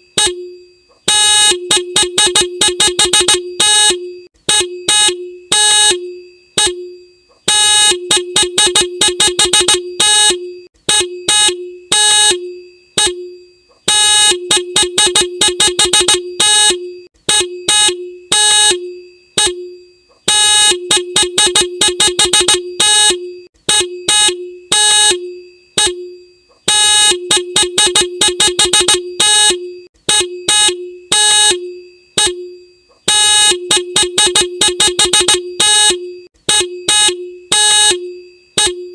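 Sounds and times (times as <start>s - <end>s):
motorcycle horn beeping and honking: 0.1s - 38.9s.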